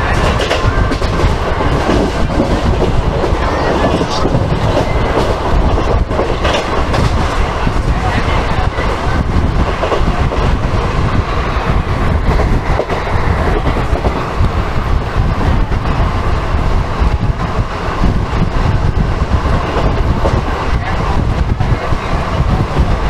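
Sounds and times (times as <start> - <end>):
train wheels clickety-clack: 0.0 - 23.0
train wheels rumbling on rails: 0.0 - 23.0.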